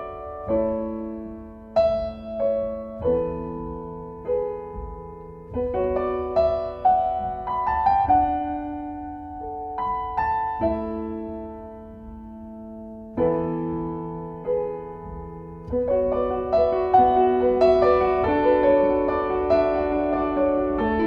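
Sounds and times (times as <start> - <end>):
piano chords ringing: 0.0 - 21.0.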